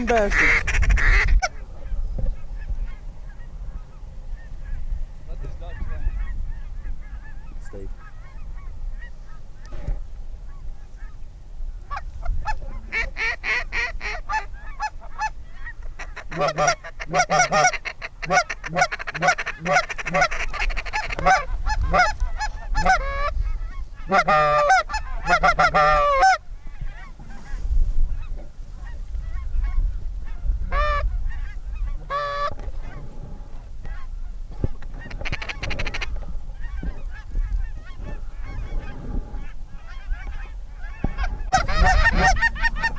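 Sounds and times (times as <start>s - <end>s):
goose honking and clucking: 0.0s - 11.2s, 11.8s - 42.9s.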